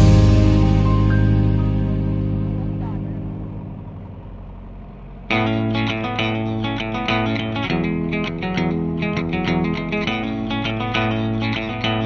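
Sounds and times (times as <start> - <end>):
distorted electric guitar music: 0.0 - 12.0.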